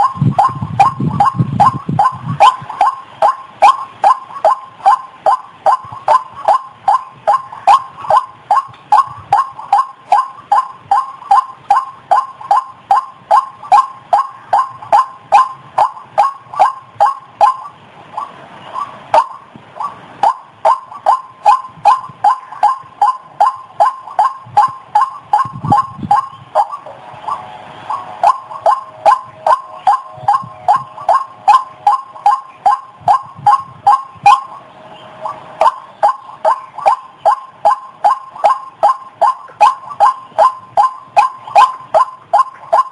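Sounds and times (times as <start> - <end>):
waterhen calling: 0.0 - 42.9.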